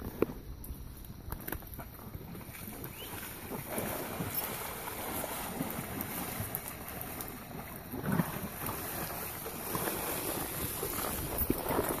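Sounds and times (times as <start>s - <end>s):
hooves splashing through water: 0.0s - 12.0s
wind buffeting microphone: 0.0s - 12.0s.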